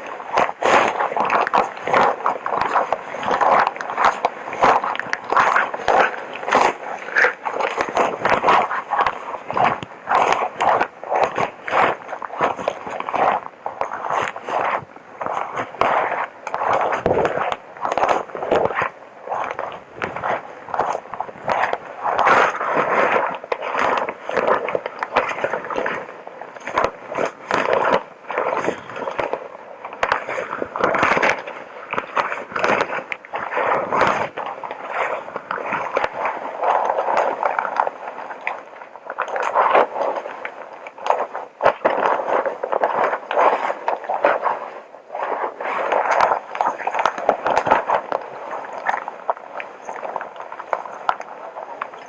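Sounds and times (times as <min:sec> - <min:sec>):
scrapes and small clicks: 0:00.0 - 0:52.0.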